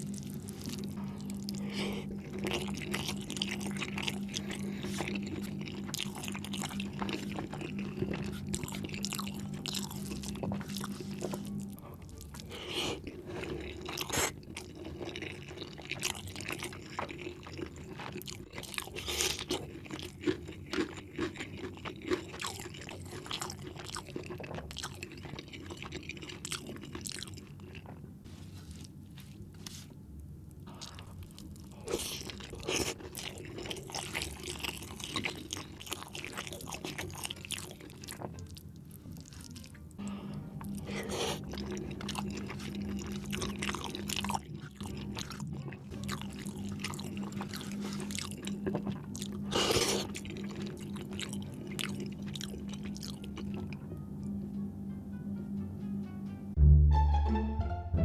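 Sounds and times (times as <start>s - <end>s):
person chewing food: 0.0s - 29.8s, 30.5s - 53.8s.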